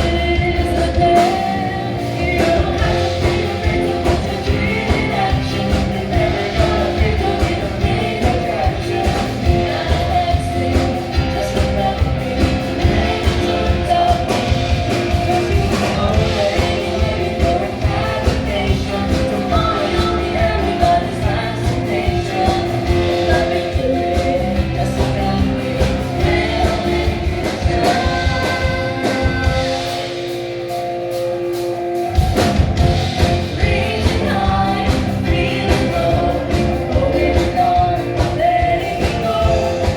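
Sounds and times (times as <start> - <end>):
steady drum beat: 0.0 - 39.9
upbeat rock song with singing: 0.0 - 39.9.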